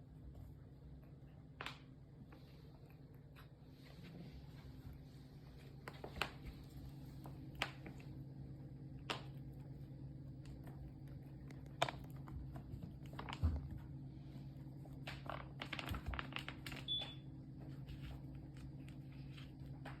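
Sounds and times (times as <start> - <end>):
steady low hum: 0.0 - 20.0
kittens gnawing and pawing: 0.1 - 20.0.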